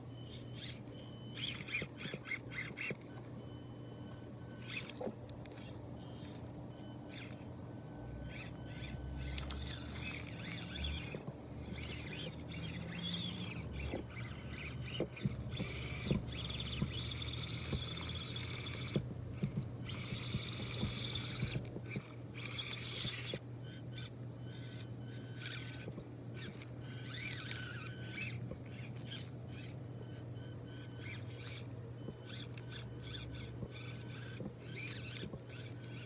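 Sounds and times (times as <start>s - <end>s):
rc car motor whining: 0.0s - 36.0s.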